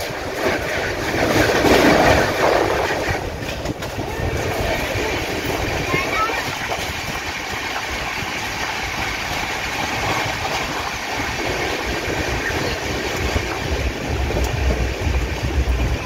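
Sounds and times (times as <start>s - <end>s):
low rumble: 0.0s - 16.0s
passing train rail noise: 0.0s - 16.0s.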